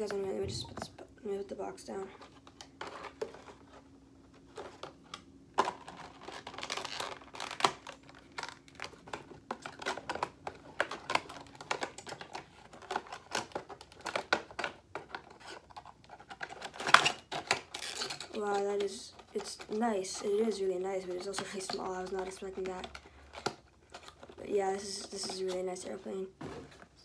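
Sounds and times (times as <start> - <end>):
plastic packaging crinkling: 2.0 - 26.0.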